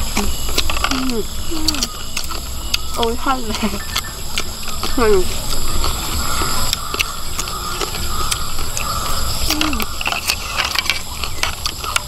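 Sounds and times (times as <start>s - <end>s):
people chewing and crunching: 0.0s - 12.0s
steady high hum: 0.0s - 12.0s.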